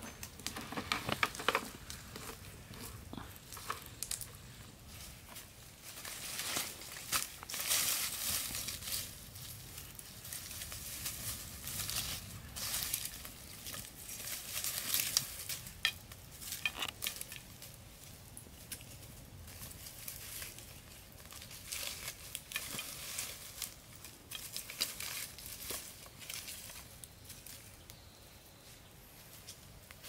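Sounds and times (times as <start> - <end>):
dry leaves and sticks rustling: 0.0 - 30.0
small fire crackling: 0.0 - 30.0.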